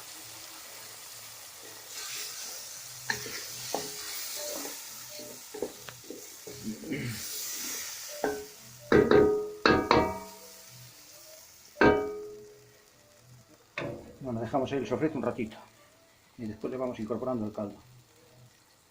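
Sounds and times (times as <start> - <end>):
vegetables sizzling in a pan: 0.0 - 18.9.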